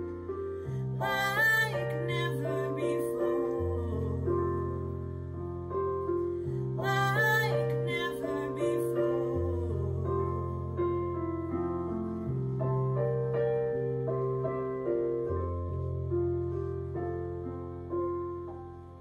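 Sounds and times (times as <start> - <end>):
slow piano ballad chords: 0.0 - 19.0.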